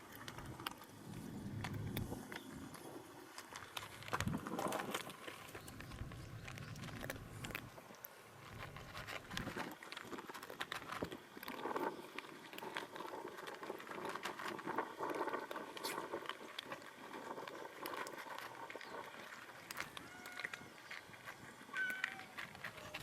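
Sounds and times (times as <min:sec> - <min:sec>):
cats crunching dry food: 0:00.0 - 0:23.0.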